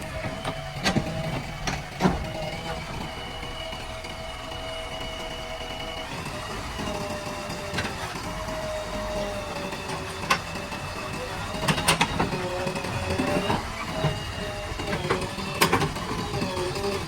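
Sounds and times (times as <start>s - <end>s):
diesel engine whining: 0.0s - 17.0s.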